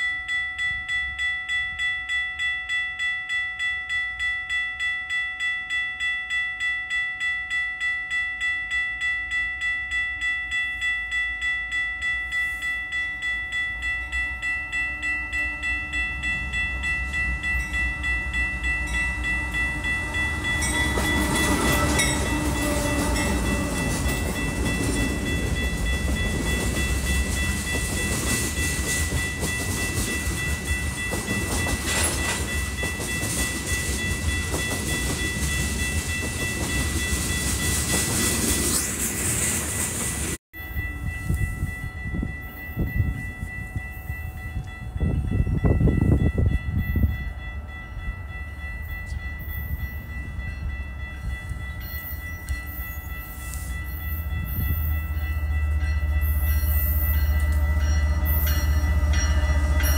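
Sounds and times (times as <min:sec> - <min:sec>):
crossing warning bell ringing: 0:00.0 - 0:59.9
freight train rumble: 0:08.9 - 0:59.9.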